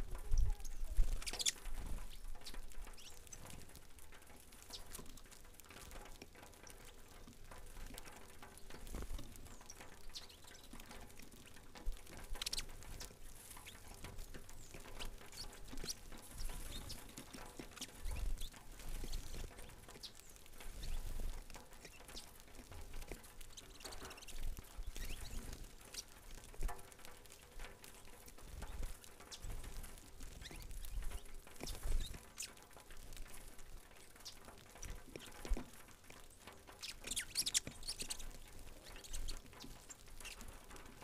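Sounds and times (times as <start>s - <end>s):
birds pecking on wood: 0.0s - 41.0s.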